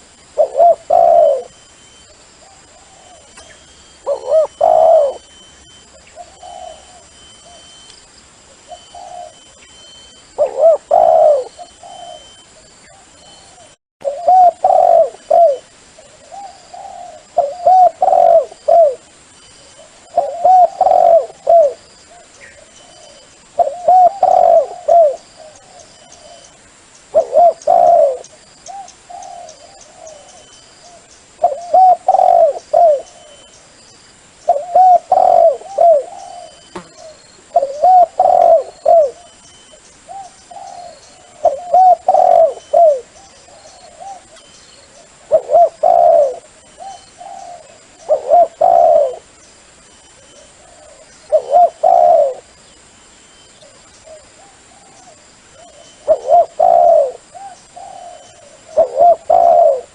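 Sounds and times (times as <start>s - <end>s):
dove cooing: 0.0s - 1.6s, 2.4s - 7.7s, 8.6s - 19.1s, 19.8s - 26.5s, 27.1s - 33.5s, 34.5s - 39.4s, 40.1s - 49.3s, 50.2s - 52.6s, 53.6s - 59.9s.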